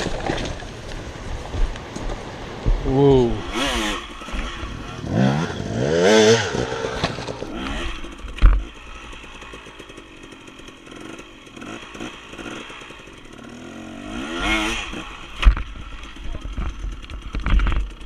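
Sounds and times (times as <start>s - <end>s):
dirt bike engine revving: 2.3s - 18.0s.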